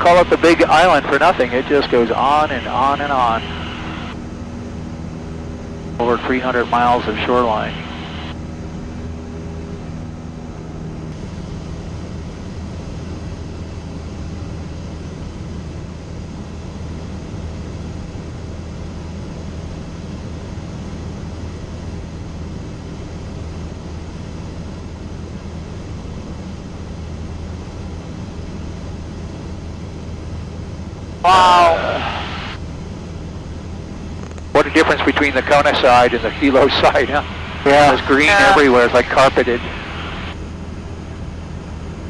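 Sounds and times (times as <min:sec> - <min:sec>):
propeller plane engine drone: 0:00.0 - 0:42.0.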